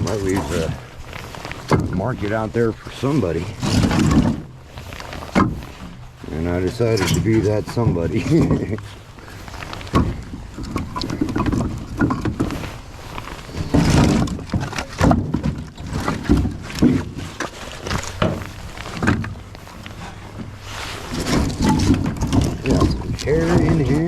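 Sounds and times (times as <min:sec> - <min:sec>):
firewood pieces clunking together: 0:00.0 - 0:24.0.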